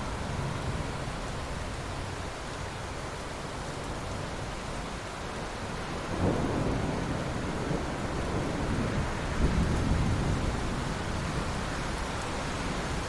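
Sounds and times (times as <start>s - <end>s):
rain hissing onto water: 0.0s - 13.0s.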